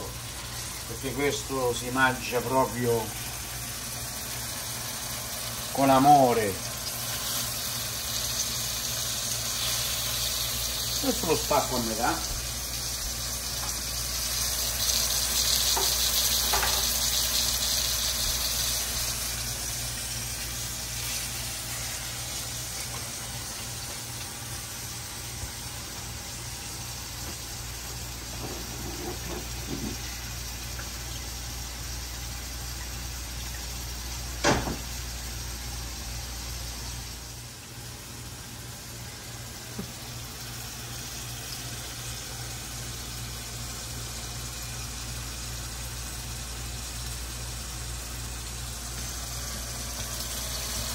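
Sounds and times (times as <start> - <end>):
food sizzling in a frying pan: 0.0 - 50.9.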